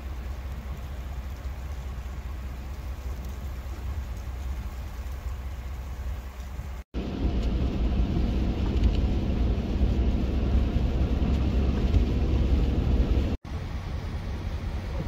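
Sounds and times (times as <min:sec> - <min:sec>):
outdoor ambience: 0:00.0 - 0:15.0
vehicle road noise with tyre hiss: 0:00.0 - 0:15.0.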